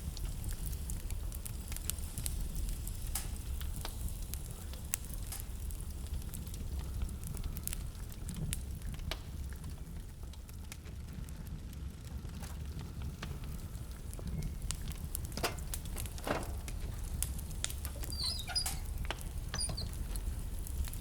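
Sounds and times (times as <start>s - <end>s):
sharp pops of fire: 0.0s - 21.0s
wood fire crackling: 0.0s - 21.0s.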